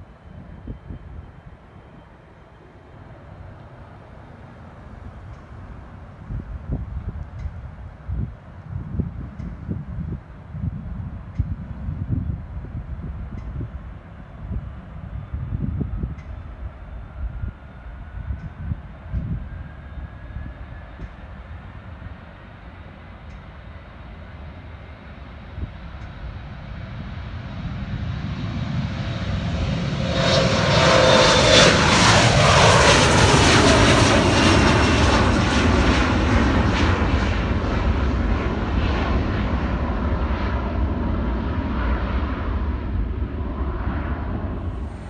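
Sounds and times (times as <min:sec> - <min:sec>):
jet airliner taking off: 0:00.0 - 0:45.0.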